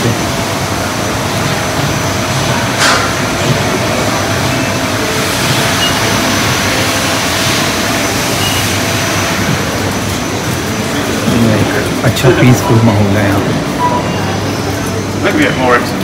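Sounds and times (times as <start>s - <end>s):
ventilation noise: 0.0s - 16.0s.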